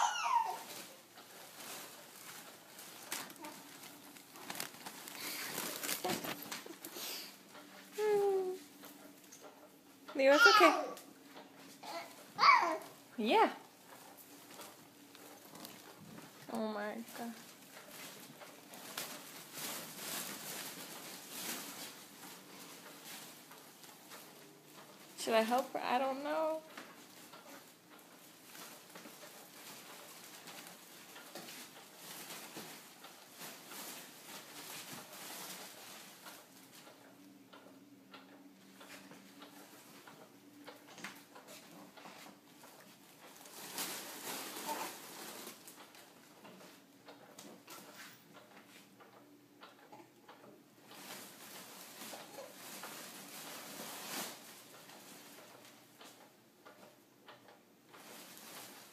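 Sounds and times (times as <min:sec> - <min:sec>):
foil balloons crinkling: 0:00.0 - 0:09.5, 0:10.1 - 0:37.0, 0:38.8 - 0:46.8, 0:50.8 - 0:55.8, 0:57.9 - 0:58.9.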